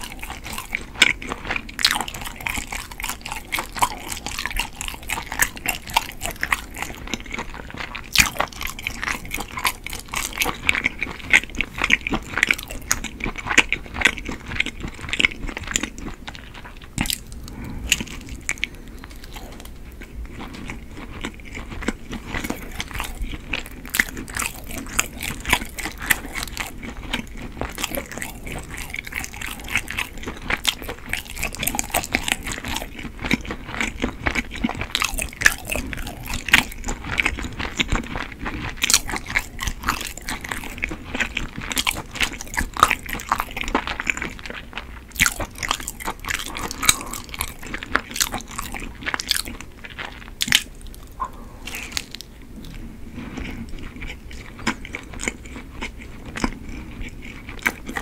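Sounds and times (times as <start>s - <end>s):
chewing rice cake: 0.0s - 58.0s.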